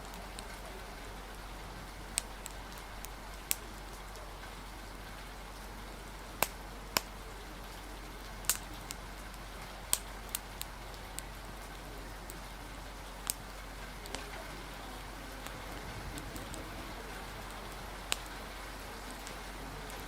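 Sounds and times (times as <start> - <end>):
rain: 0.0 - 20.0
wind: 0.0 - 20.0
wood fire crackling: 0.0 - 20.0.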